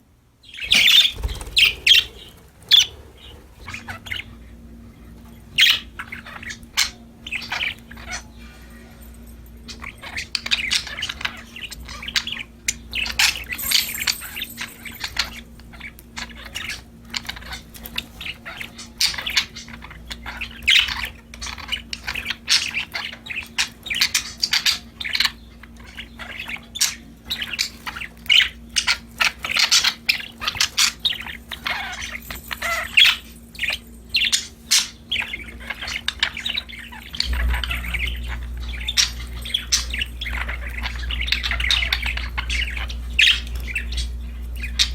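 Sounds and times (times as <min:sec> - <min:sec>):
budgerigars chirping and warbling: 0:00.4 - 0:44.9.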